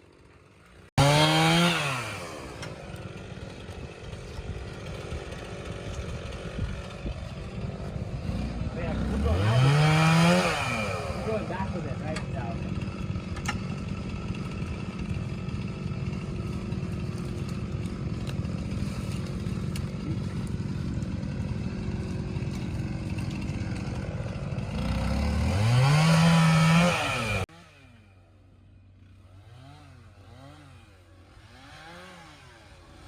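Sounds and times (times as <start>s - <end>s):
chainsaw engine idling and revving: 0.0s - 33.0s.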